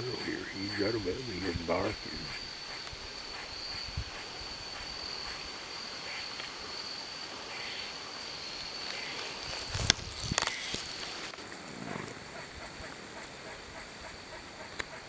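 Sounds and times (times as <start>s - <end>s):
crickets droning: 0.0s - 15.0s.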